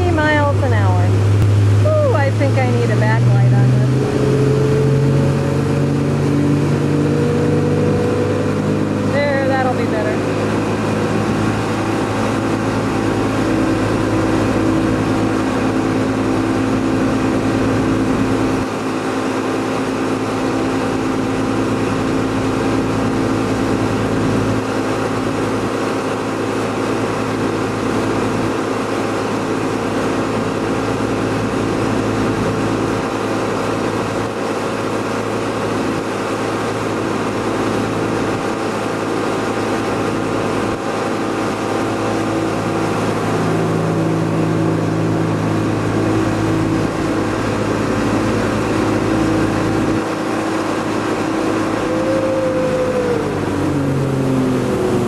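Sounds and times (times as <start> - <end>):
boat engine running at high speed: 0.0 - 55.0
rushing water and spray: 0.0 - 55.0.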